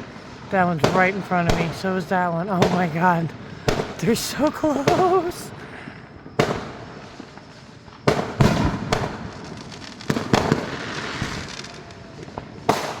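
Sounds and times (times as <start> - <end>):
fireworks booms: 0.0 - 13.0
fireworks crackling: 0.0 - 13.0.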